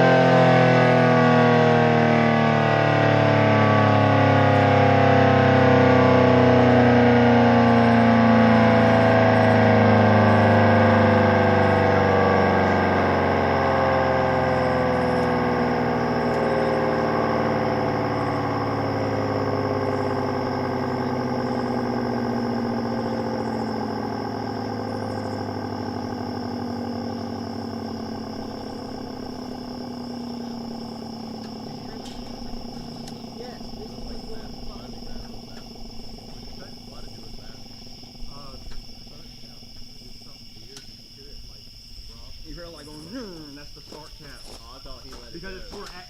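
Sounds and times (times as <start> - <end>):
warning siren winding down: 0.0 - 46.0.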